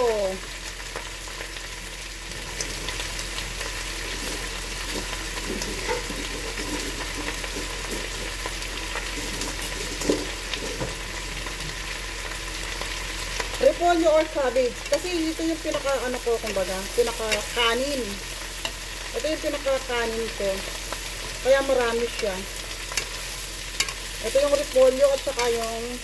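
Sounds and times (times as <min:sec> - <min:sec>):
cabbage sizzling in frying pan: 0:00.0 - 0:26.0.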